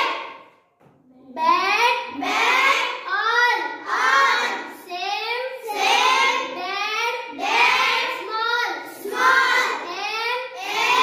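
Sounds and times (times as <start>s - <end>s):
children chanting words in unison: 0.0s - 0.5s, 1.4s - 11.0s.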